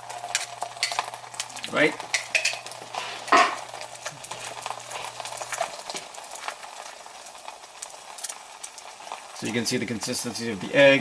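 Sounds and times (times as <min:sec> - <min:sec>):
eggs sizzling in a frying pan: 0:00.0 - 0:11.0.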